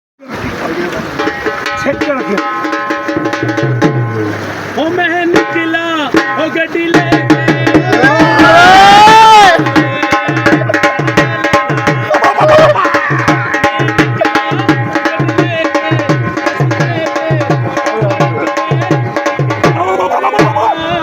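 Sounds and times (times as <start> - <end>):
dhol drum beats: 0.6 - 21.0.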